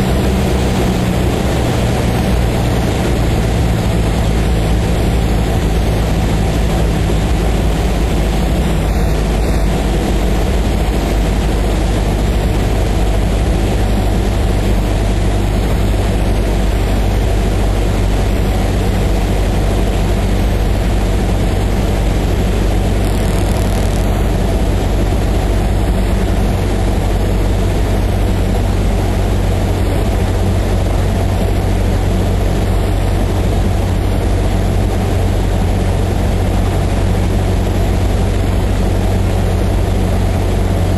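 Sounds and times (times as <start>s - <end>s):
aircraft engine and propeller droning: 0.0s - 40.9s.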